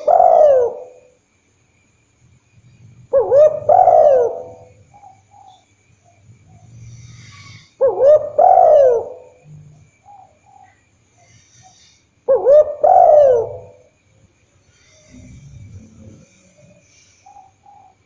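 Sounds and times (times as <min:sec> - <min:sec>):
dove cooing: 0:00.0 - 0:01.2, 0:02.7 - 0:13.9, 0:14.8 - 0:18.0.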